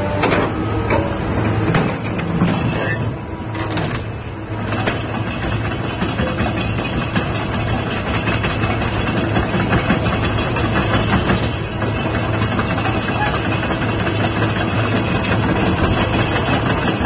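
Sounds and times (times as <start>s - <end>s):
excavator diesel engine humming: 0.0s - 17.0s.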